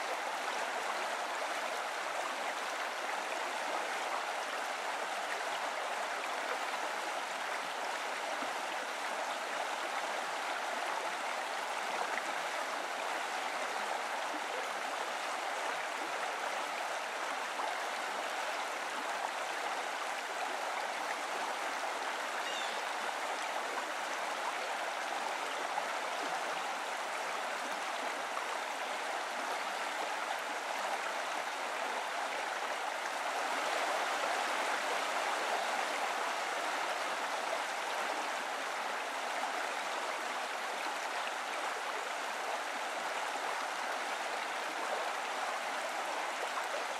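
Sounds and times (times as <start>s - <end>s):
running water rushing: 0.0s - 46.9s.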